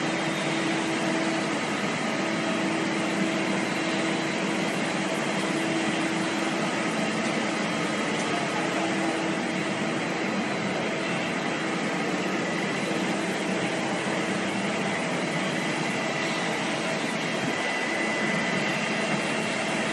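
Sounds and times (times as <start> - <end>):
machinery whirring: 0.0 - 19.9.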